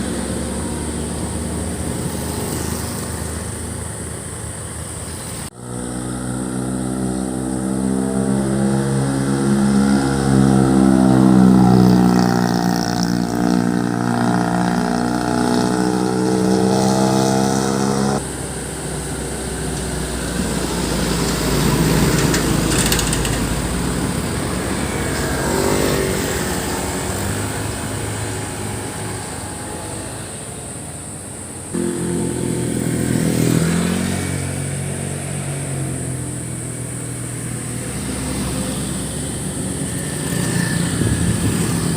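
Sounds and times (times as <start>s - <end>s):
loud exhausts of passing vehicles: 0.0s - 41.9s.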